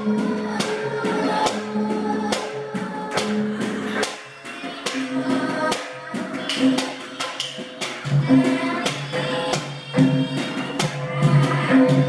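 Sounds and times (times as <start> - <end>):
drum strokes: 0.0 - 12.0
girl singing into microphone: 0.0 - 12.0.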